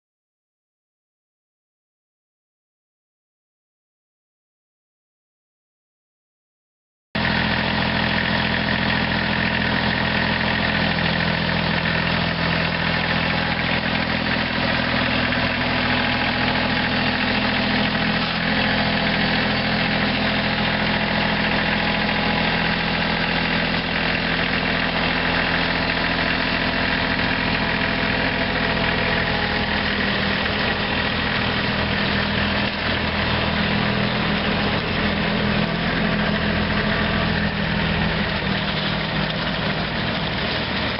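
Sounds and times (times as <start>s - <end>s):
diesel tractor engine idling: 7.2s - 40.9s.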